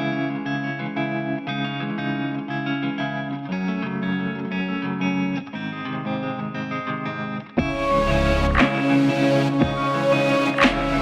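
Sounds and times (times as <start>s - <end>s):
pop guitar with strummed chords: 0.0s - 11.0s.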